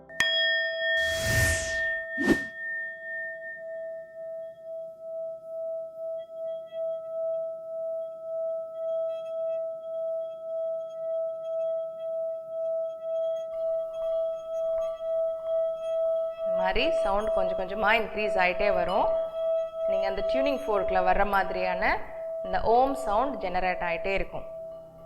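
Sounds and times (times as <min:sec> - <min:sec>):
singing bowl ringing tone: 0:00.0 - 0:25.0.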